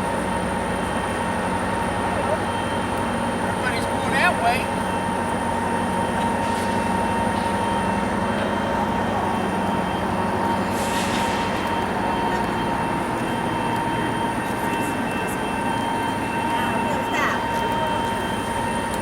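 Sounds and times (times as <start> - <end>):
train mechanical drone: 0.0 - 19.0.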